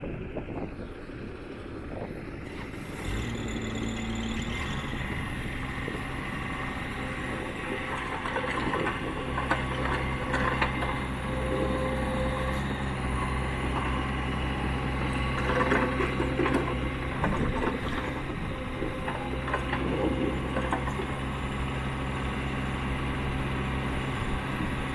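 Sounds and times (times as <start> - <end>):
diesel engine starting and running: 0.0 - 24.9.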